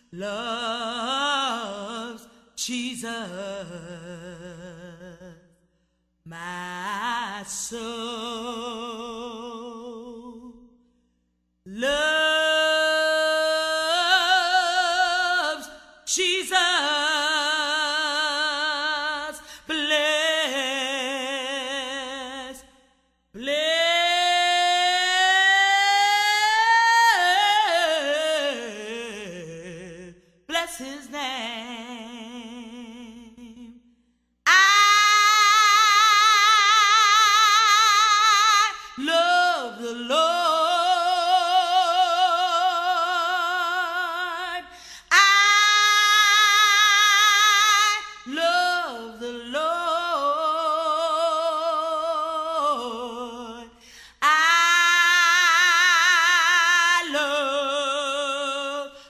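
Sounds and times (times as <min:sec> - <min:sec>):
woman singing unaccompanied: 0:00.0 - 0:05.4, 0:06.3 - 0:10.6, 0:11.7 - 0:22.7, 0:23.4 - 0:33.8, 0:34.5 - 0:59.0.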